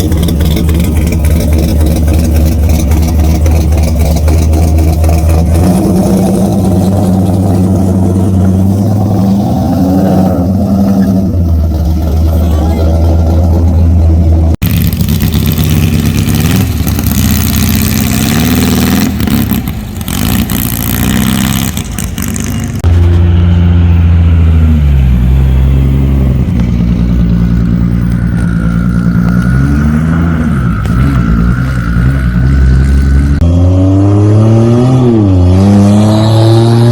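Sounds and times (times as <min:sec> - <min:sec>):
cars accelerating and revving: 0:00.0 - 0:36.9.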